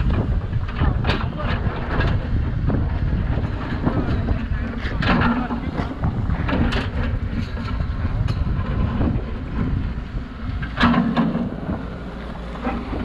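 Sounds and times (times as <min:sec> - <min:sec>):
diesel engine running: 0:00.0 - 0:13.0
wind buffeting microphone: 0:00.0 - 0:13.0.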